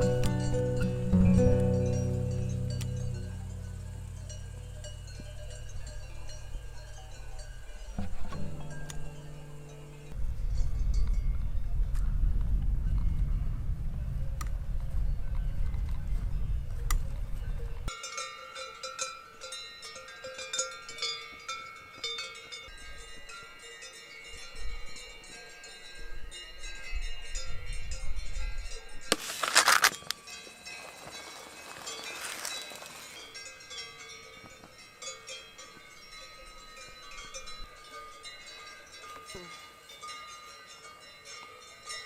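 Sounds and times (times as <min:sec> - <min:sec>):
cowbells clanking: 0:00.0 - 0:11.5, 0:17.5 - 0:42.0.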